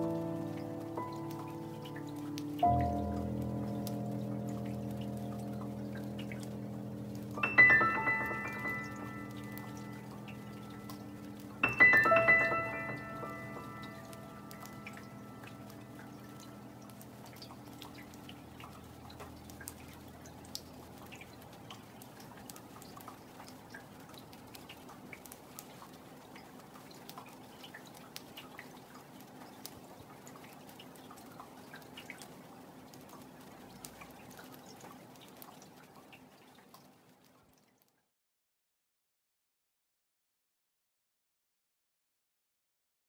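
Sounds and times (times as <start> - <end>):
raindrops dripping into water: 0.0 - 38.1
soft rain patter: 0.0 - 38.2.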